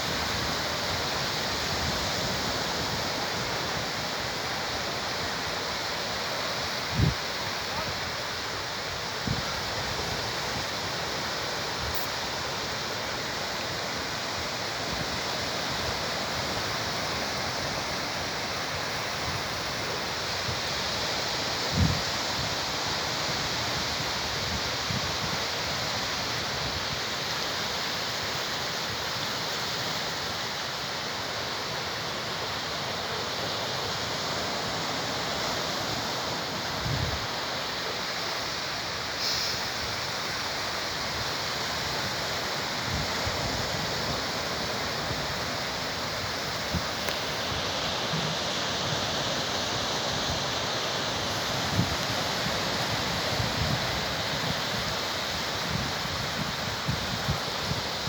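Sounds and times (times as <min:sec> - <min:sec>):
sea surf washing on shore: 0:00.0 - 0:58.0.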